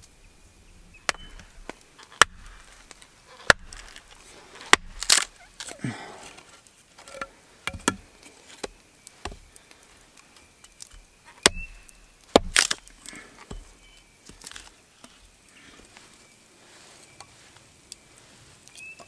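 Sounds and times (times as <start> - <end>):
campfire wood crackling and popping: 0.8 - 19.0.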